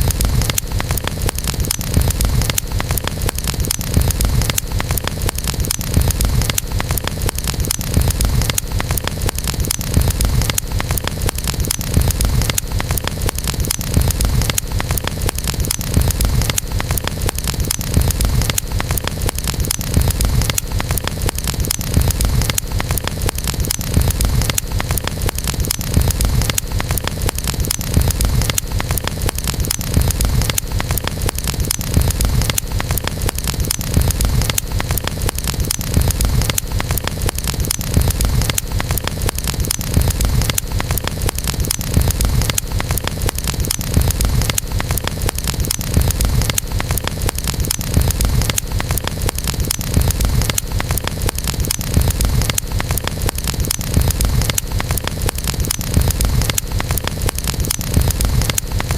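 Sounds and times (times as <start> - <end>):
campfire crackling: 0.0 - 58.9
low rumble of fire: 0.0 - 58.9.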